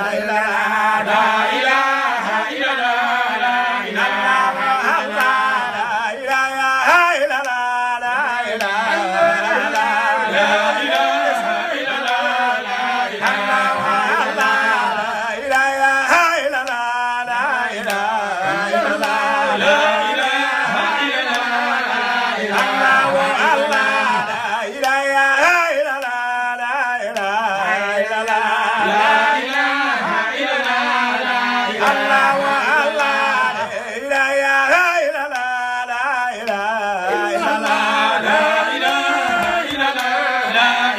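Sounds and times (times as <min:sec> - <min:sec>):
men chanting a devotional song: 0:00.0 - 0:40.9.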